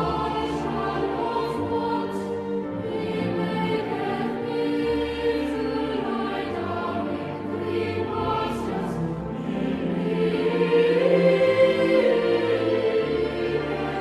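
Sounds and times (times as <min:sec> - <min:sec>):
choir singing hymn-style chords: 0:00.0 - 0:14.0.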